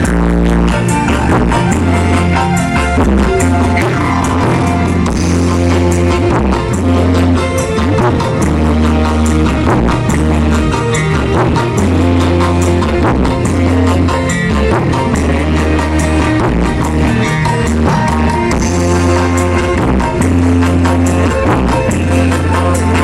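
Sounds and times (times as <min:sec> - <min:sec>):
band music through loudspeakers: 0:00.0 - 0:23.0
guitar: 0:00.0 - 0:23.0
heavy bass notes: 0:00.0 - 0:23.0.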